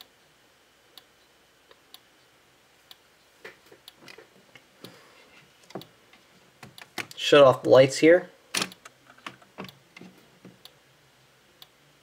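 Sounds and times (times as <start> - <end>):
faint irregular noises: 1.0 - 7.8, 8.5 - 12.0.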